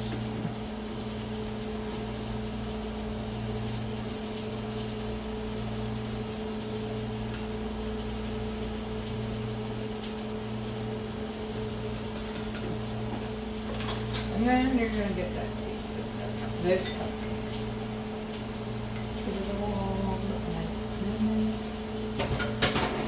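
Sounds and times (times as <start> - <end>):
kitchen appliance humming: 0.0 - 23.0.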